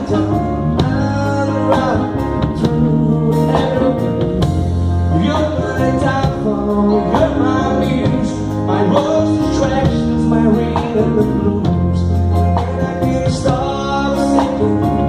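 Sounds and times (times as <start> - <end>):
song with guitar accompaniment: 0.0 - 15.0.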